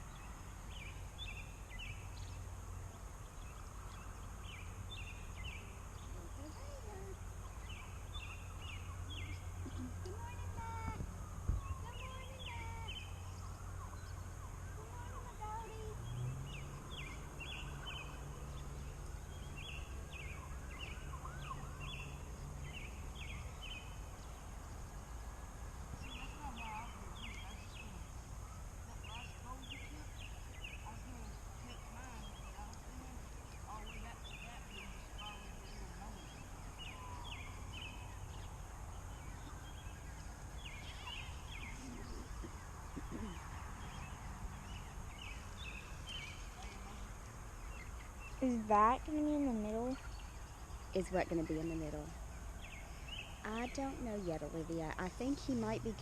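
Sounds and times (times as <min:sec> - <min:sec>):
low steady hum: 0:00.0 - 0:56.0
steady low background noise: 0:00.0 - 0:56.0.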